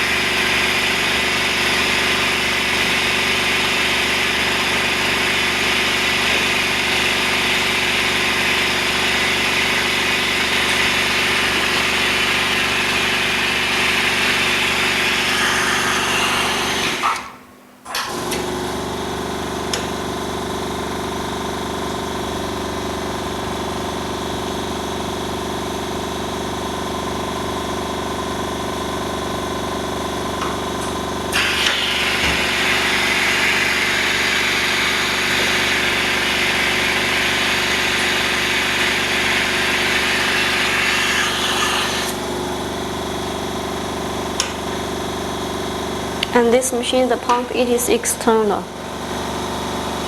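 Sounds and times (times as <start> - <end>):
vacuum pump humming: 0.0 - 50.0.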